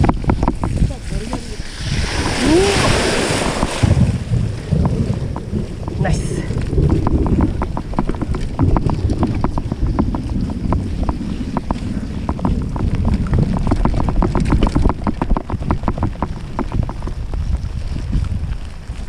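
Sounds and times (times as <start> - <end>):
quick ticks and rattles: 0.0 - 1.6, 4.7 - 19.0
wind buffeting microphone: 0.0 - 19.0.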